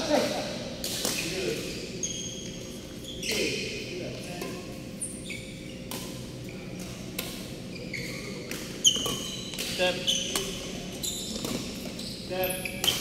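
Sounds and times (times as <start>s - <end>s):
shoes squeaking on court: 0.8s - 13.0s.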